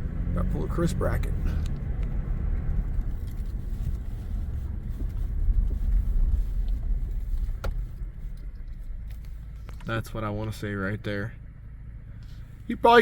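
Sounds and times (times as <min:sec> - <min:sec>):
vehicle driving low rumble: 0:00.0 - 0:13.0.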